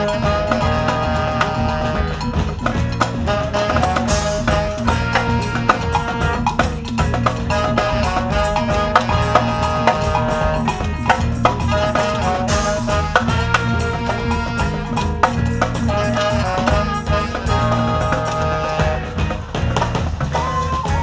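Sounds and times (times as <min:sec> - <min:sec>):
electric bass: 0:00.0 - 0:21.0
saxophones and trumpet: 0:00.0 - 0:21.0
sharp drum and rim strokes: 0:00.0 - 0:21.0.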